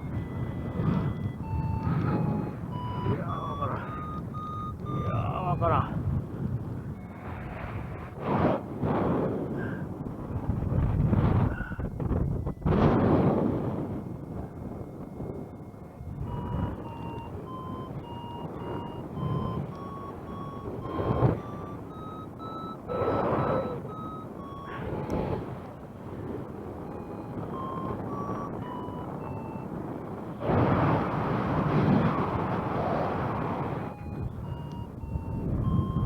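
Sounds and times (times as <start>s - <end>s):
variometer beeping: 0.0s - 8.8s, 10.0s - 36.0s
wind rushing on microphone: 0.0s - 36.0s.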